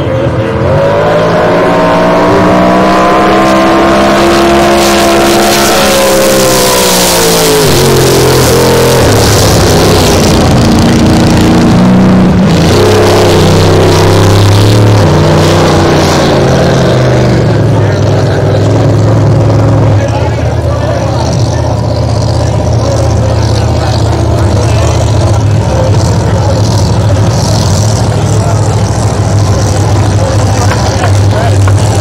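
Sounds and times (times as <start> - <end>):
powerboat engine running hard: 0.0 - 32.0.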